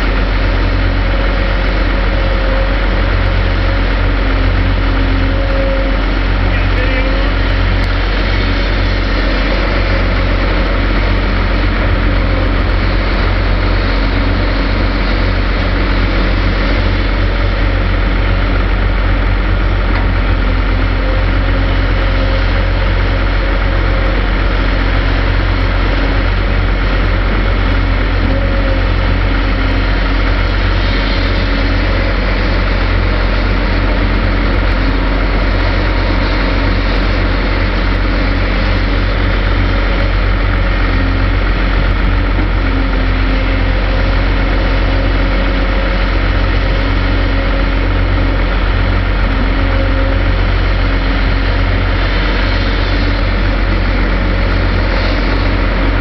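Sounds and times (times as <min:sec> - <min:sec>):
excavator engine and hydraulics: 0:00.0 - 0:56.0
faint whine: 0:00.0 - 0:56.0.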